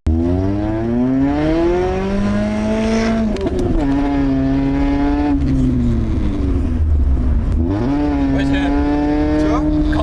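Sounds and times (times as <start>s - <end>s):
loud car engine without muffler: 0.1s - 10.0s.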